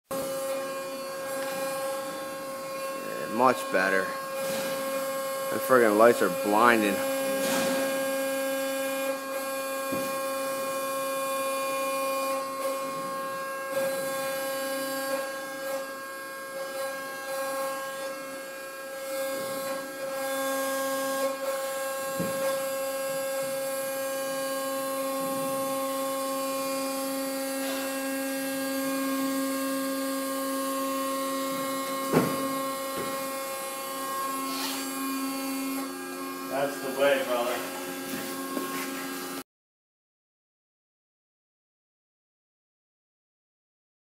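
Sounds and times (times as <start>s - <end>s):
motor and hydraulic pump hum: 0.1s - 39.4s.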